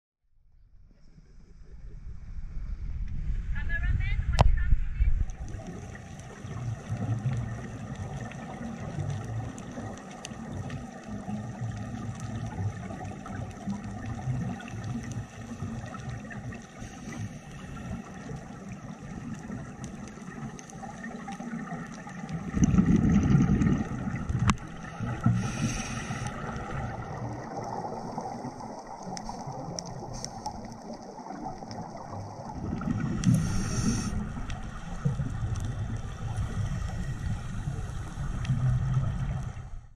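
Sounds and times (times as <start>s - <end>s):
underwater rumbling wash: 1.0s - 39.9s
regulator exhale bubbles: 5.4s - 39.8s.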